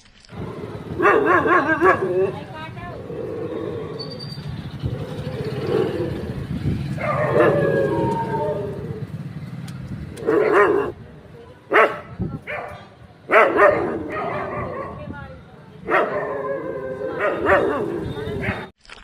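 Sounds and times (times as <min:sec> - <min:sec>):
dogs barking: 0:00.4 - 0:04.2, 0:04.8 - 0:09.1, 0:10.1 - 0:11.0, 0:11.7 - 0:15.1, 0:15.8 - 0:18.7.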